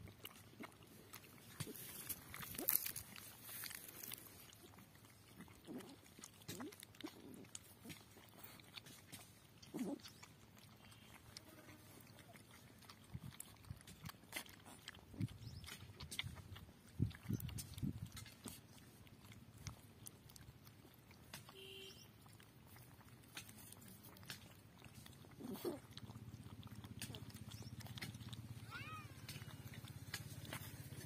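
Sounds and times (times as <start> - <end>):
puppies lapping and chewing: 0.0 - 31.0.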